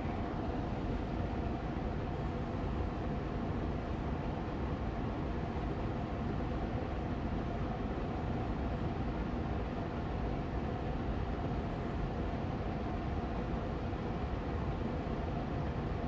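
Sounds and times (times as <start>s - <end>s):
air purifier fan running: 0.0s - 16.0s.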